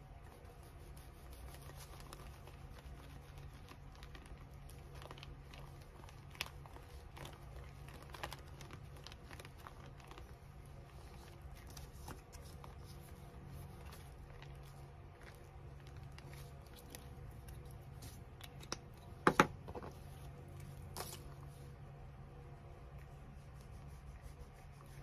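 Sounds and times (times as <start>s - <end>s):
paper crinkling and rustling: 0.4s - 21.7s.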